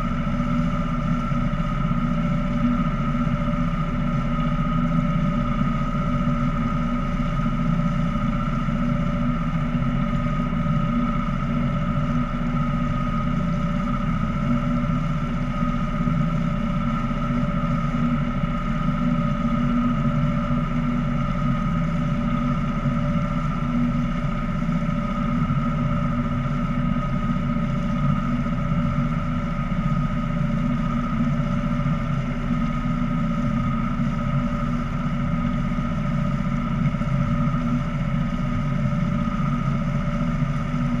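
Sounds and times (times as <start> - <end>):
boat engine droning: 0.0 - 41.0
high engine whine: 0.0 - 41.0.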